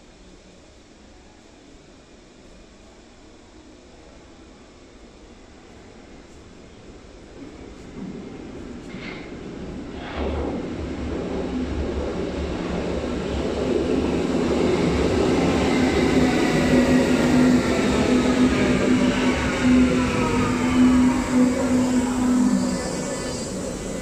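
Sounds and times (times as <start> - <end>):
electric train rumble: 0.0 - 24.0.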